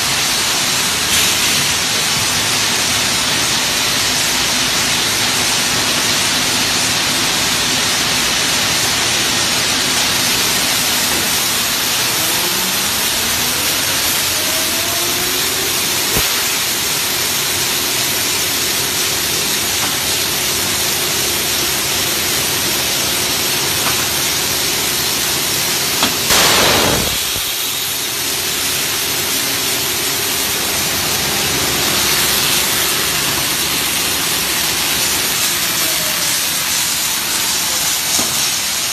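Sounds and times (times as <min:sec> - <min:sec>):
tape machine hissing whir: 0:00.0 - 0:38.9.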